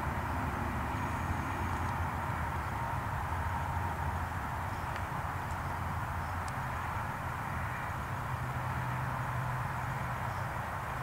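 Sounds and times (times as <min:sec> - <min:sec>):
low constant hum: 0:00.0 - 0:11.0.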